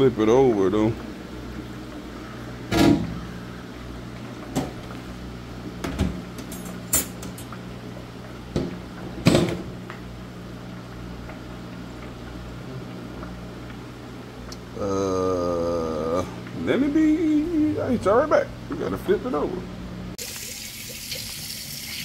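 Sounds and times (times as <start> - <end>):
steady low hum: 0.0 - 20.2.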